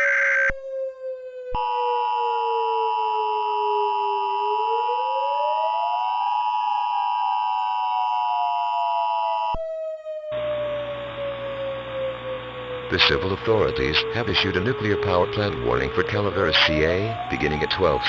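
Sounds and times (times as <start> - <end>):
two-tone alarm: 0.0 - 0.6, 1.5 - 18.0.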